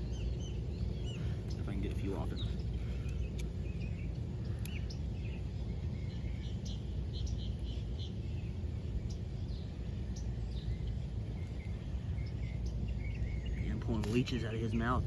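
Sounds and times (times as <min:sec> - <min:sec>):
birds chirping: 0:00.0 - 0:15.0
low outdoor rumble: 0:00.0 - 0:15.0.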